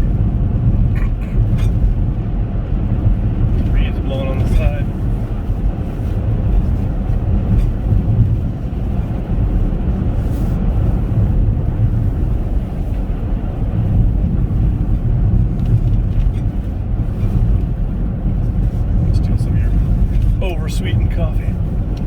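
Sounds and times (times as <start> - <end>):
crosswind blowing on car: 0.0 - 22.0
road and wind noise in car: 0.0 - 22.0.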